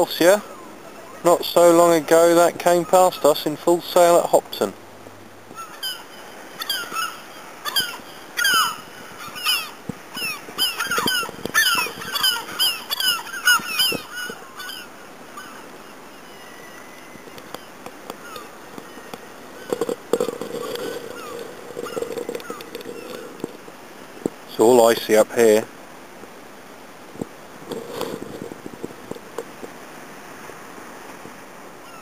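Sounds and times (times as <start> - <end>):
water birds honking: 0.0 - 25.6, 31.8 - 32.0.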